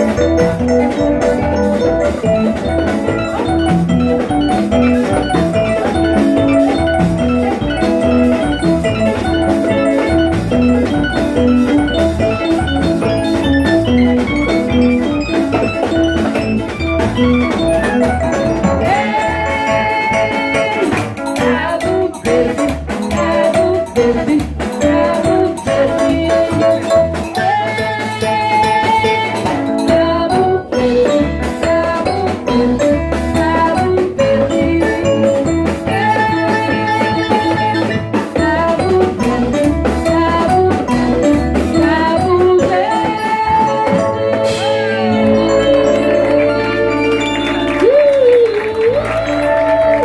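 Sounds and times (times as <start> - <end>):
live dance band playing: 0.0 - 50.0.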